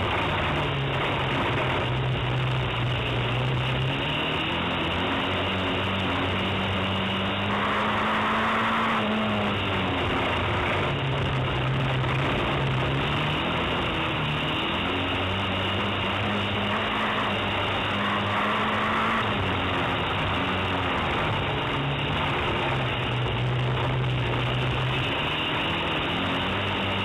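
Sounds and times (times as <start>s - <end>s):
car engine running hard: 0.0s - 27.0s.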